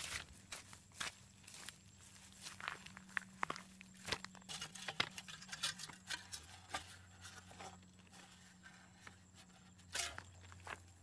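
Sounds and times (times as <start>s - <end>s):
grass rustling: 0.0s - 11.0s.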